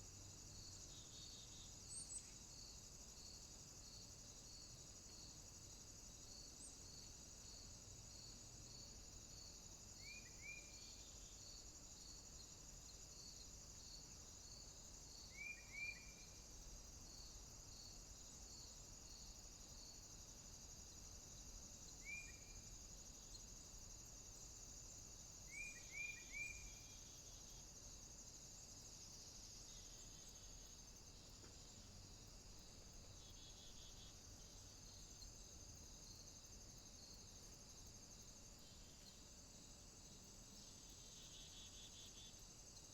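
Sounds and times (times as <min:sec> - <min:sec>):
crickets trilling: 0:00.0 - 0:42.9
pulsing insect chirp: 0:00.0 - 0:42.9.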